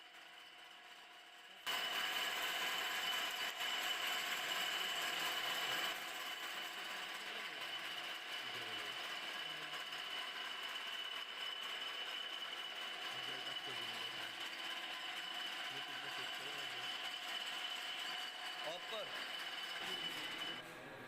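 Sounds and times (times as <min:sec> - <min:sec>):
lathe running with high whine: 0:00.0 - 0:20.6.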